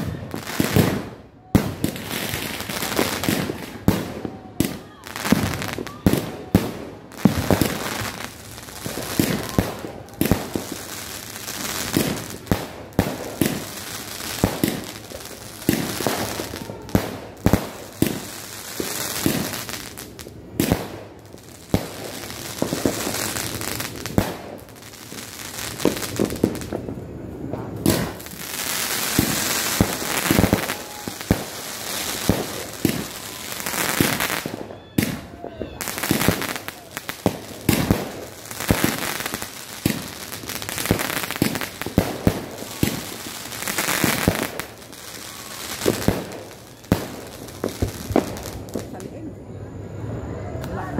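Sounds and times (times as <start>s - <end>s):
fireworks shots bursting: 0.0s - 49.1s
fireworks crackle: 0.0s - 49.4s, 50.6s - 50.9s.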